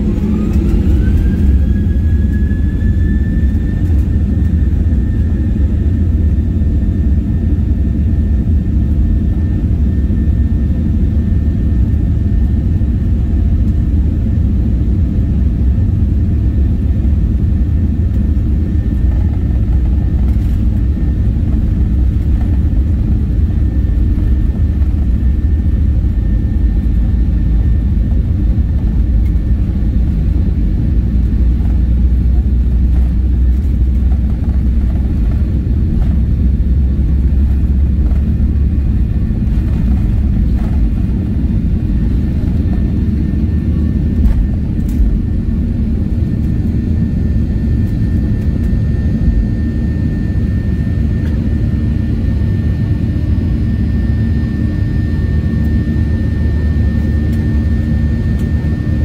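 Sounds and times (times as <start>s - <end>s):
jet engine whine: 0.0s - 59.0s
low rumble of takeoff roll: 0.0s - 59.0s.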